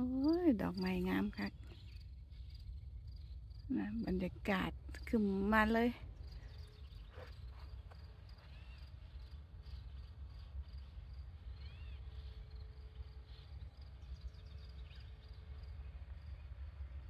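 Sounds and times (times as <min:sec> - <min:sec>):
insects chirping: 0:00.0 - 0:17.0
steady low rumble: 0:00.0 - 0:17.0.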